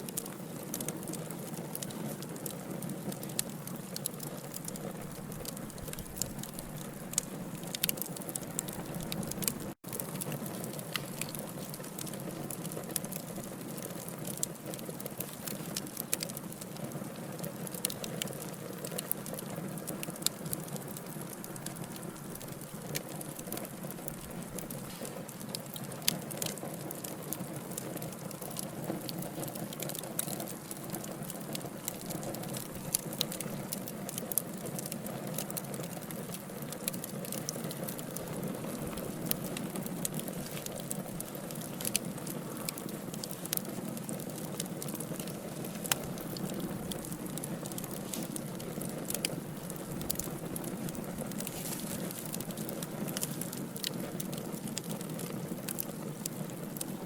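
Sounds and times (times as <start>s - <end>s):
wood fire hissing and crackling: 0.0s - 57.0s.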